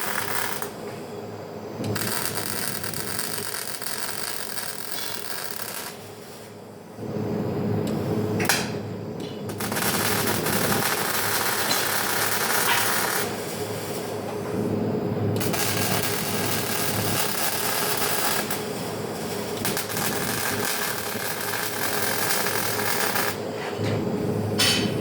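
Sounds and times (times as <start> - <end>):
welding arc crackling and hissing: 0.0 - 6.8, 9.5 - 23.5.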